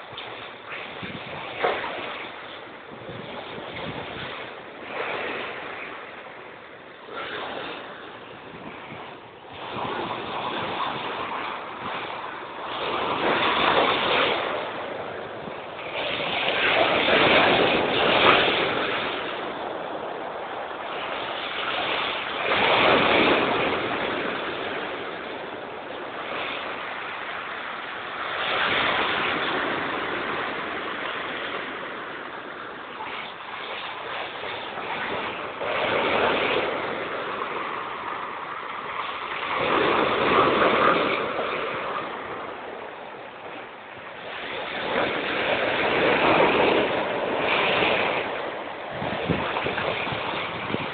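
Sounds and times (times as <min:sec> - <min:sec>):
sea waves crashing: 0:00.0 - 0:50.9.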